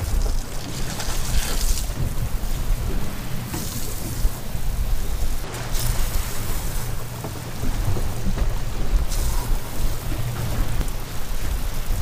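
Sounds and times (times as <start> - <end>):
hose spraying water: 0.0 - 12.0
sea noise: 0.0 - 12.0
wind on microphone: 0.0 - 12.0.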